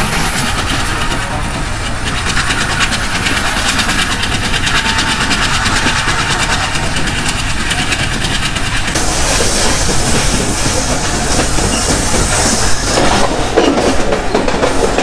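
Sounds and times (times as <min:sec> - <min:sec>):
rhythmic rail clicks: 0:00.0 - 0:15.0
train wheels rumbling on rails: 0:00.0 - 0:15.0.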